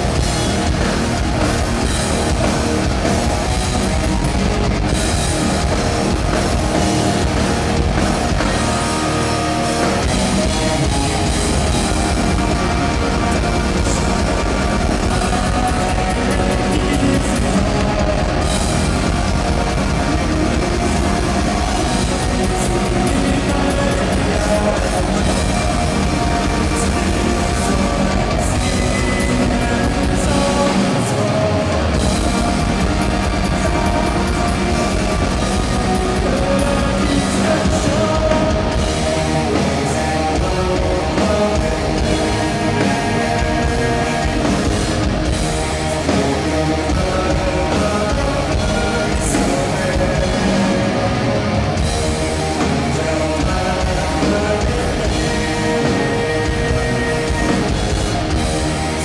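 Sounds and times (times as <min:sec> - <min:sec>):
distorted electric guitars: 0:00.0 - 0:59.0
drum kit: 0:00.0 - 0:59.0.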